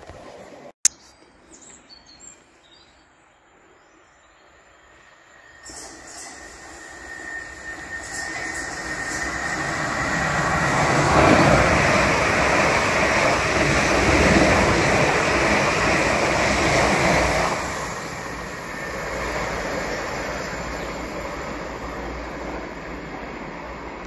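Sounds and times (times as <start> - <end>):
passenger train passing: 3.5 - 24.0.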